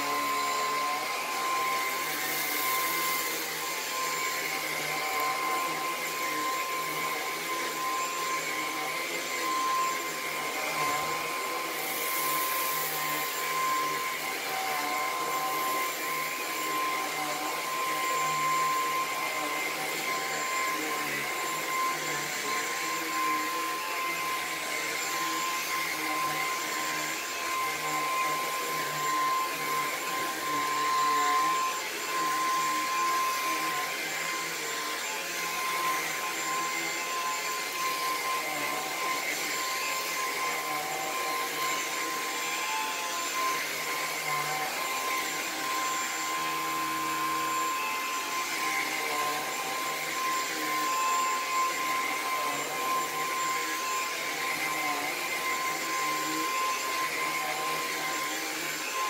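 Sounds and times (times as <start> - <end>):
stick vacuum motor whine: 0.0 - 59.0.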